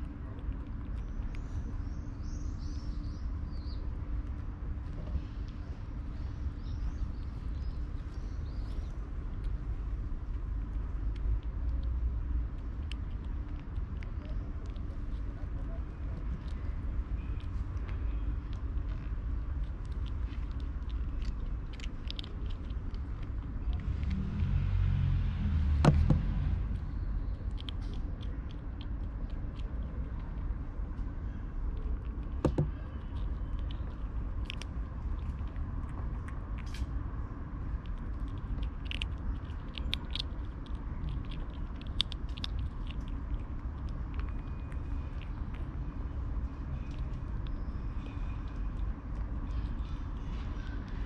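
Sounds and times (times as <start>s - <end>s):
kitten crunching dry kibble: 0.0s - 51.0s
steady low rumble: 0.0s - 51.0s.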